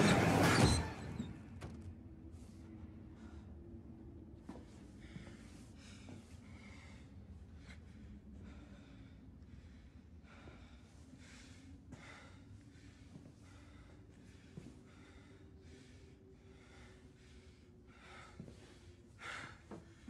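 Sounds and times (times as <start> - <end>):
low drone: 0.0 - 20.0
man breathing heavily: 3.0 - 20.0.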